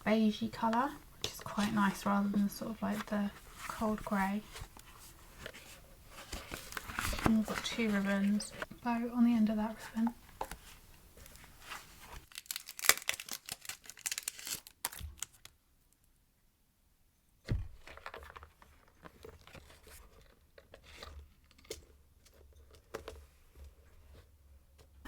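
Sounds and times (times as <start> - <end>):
paper rustling and crinkling: 0.6 - 8.8, 9.6 - 15.5, 17.7 - 24.3.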